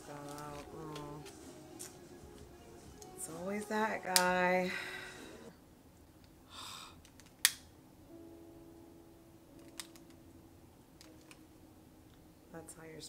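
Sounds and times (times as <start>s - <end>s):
faint background music: 0.0s - 5.6s, 7.8s - 13.0s.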